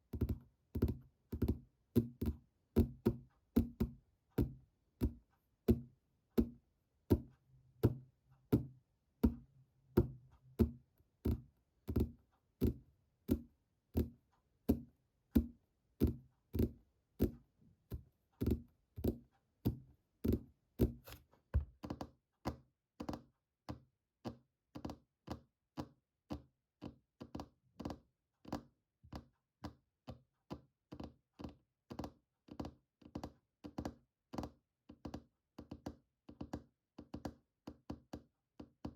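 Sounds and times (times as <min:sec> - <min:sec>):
fingertips tapping on hard object: 0:00.0 - 0:38.9.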